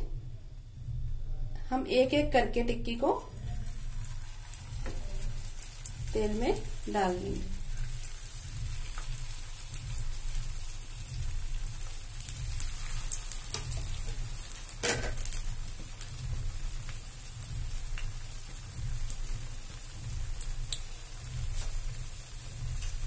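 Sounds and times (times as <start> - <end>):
low steady hum: 0.0 - 23.0
patties sizzling in hot oil: 2.8 - 23.0.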